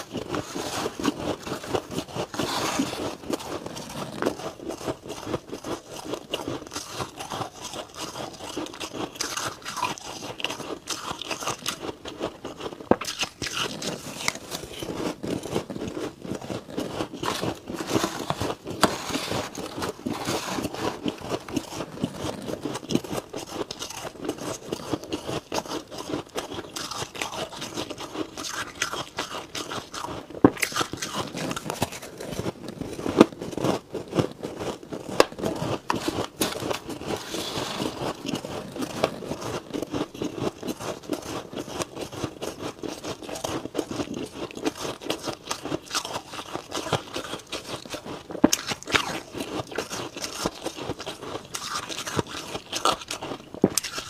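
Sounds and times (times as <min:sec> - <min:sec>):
chewing frost: 0:00.0 - 0:54.0
spoon scraping frost: 0:00.0 - 0:54.0.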